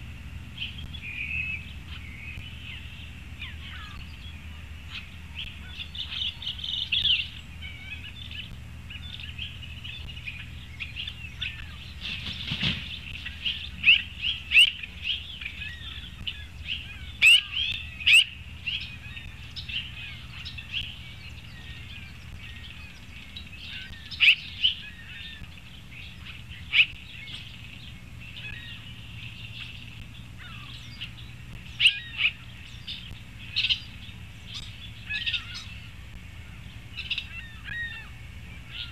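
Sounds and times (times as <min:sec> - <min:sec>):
low steady hum: 0:00.0 - 0:38.9
songbirds chirping: 0:00.0 - 0:38.9.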